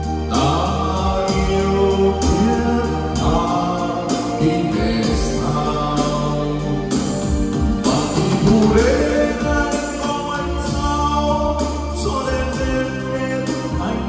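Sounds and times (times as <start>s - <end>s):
backing track with heavy bass: 0.0s - 14.0s
man singing karaoke: 0.0s - 14.0s.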